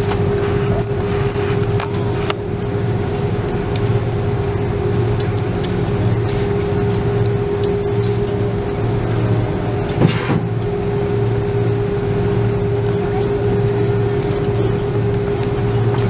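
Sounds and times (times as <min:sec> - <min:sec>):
airliner engine drone in cabin: 0:00.0 - 0:16.0
constant held tone: 0:00.0 - 0:16.0.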